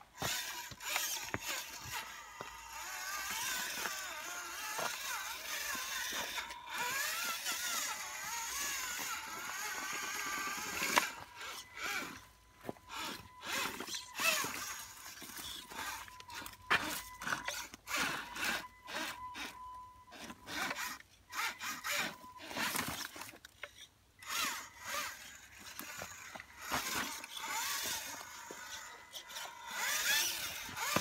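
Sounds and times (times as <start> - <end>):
electric motor whirring: 0.1 - 31.0.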